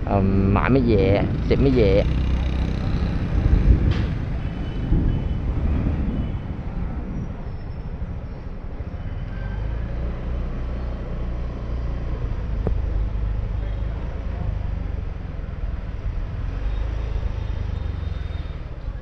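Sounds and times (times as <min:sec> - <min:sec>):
vehicles passing rumble: 0:00.0 - 0:19.0.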